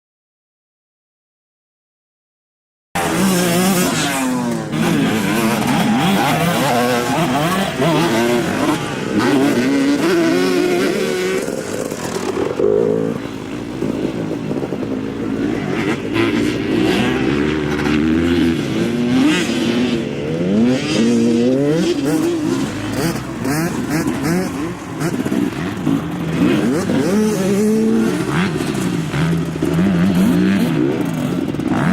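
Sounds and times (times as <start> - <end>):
dirt bike engines revving: 3.0 - 31.9.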